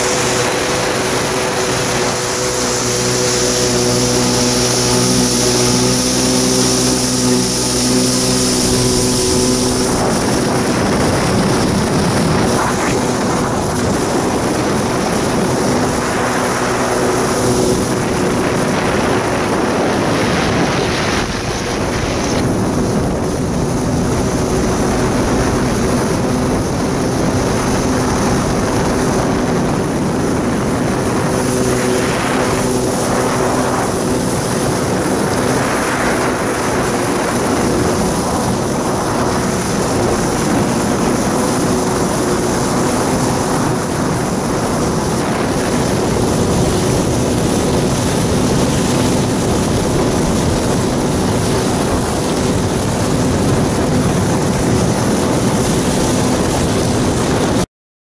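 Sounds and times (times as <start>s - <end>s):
jet ski engine droning: 0.0s - 57.7s.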